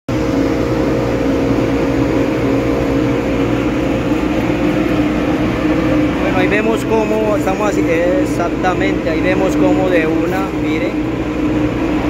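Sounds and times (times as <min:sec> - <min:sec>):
dust extraction blower humming: 0:00.1 - 0:12.0.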